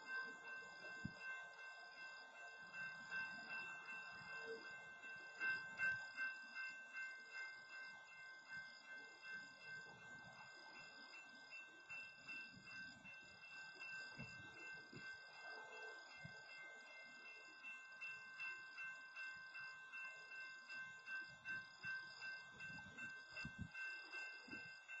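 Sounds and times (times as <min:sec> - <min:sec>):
railroad crossing bell ringing: 0:00.0 - 0:25.0.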